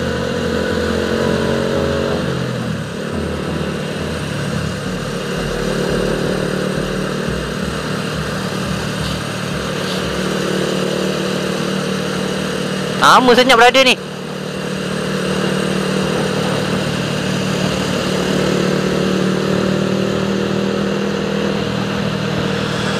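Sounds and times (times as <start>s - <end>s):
motorcycle engine cruising: 0.0s - 22.9s
wind and road noise: 0.0s - 22.9s.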